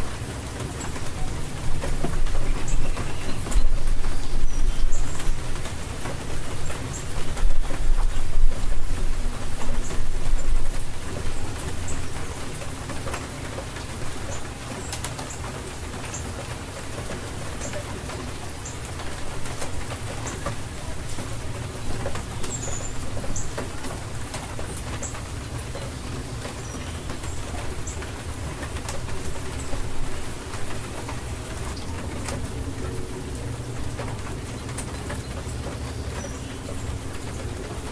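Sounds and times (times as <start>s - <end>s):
steady rain falling: 0.0s - 37.9s.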